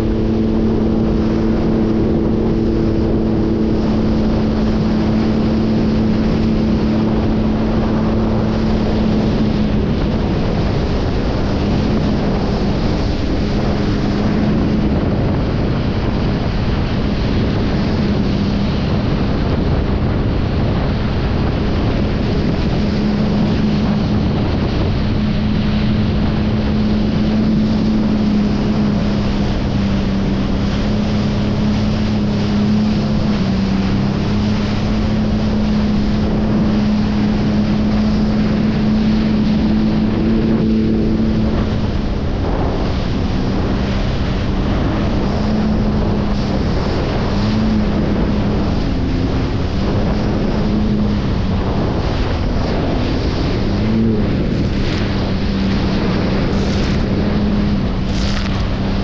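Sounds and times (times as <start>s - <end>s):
jet ski engine droning: 0.0s - 59.0s
water rushing against hull: 0.0s - 59.0s
wind buffeting microphone: 0.0s - 59.0s.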